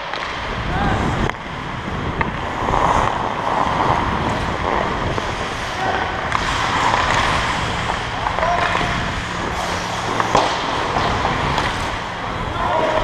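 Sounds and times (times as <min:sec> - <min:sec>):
skates scraping on ice: 0:00.0 - 0:13.0
wind noise on microphone: 0:00.4 - 0:13.0.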